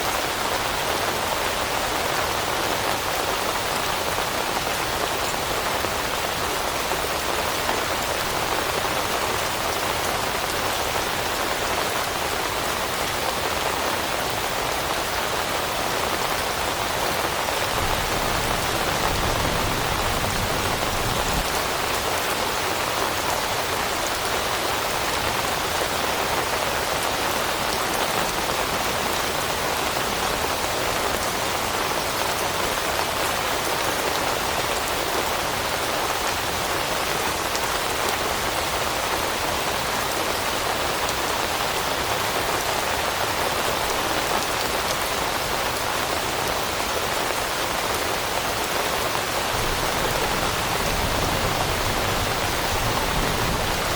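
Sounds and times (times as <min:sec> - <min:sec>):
rain on leaves: 0:00.0 - 0:53.9.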